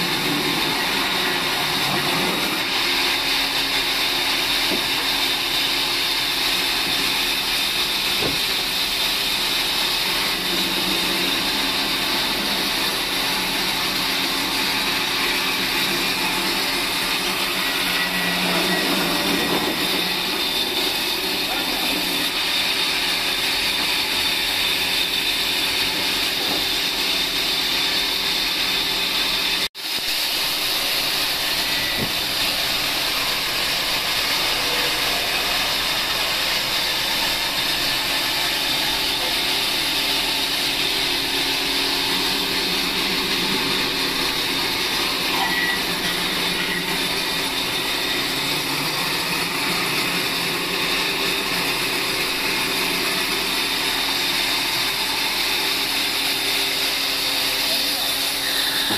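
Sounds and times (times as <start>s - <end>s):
electric band saw ripping timber: 0.0s - 58.9s.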